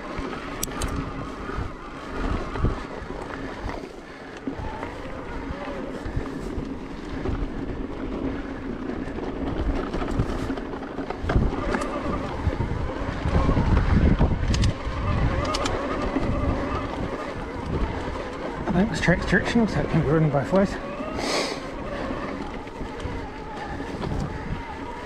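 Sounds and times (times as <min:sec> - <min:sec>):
bike rattling: 0:00.0 - 0:25.0
wind on microphone: 0:00.0 - 0:25.0
electric motor whine: 0:00.2 - 0:06.7, 0:11.2 - 0:25.0.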